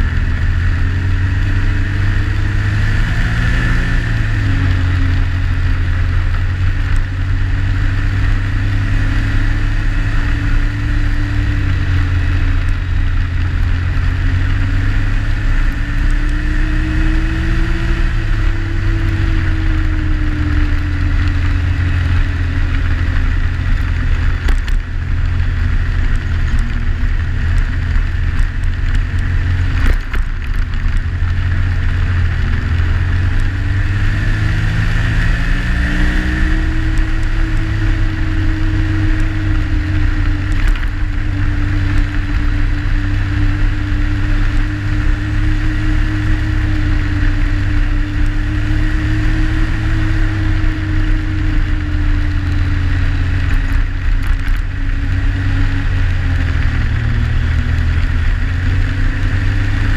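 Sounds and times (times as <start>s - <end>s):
snowmobile engine running: 0.0s - 59.9s
snowmobile track and rushing noise: 0.0s - 59.9s.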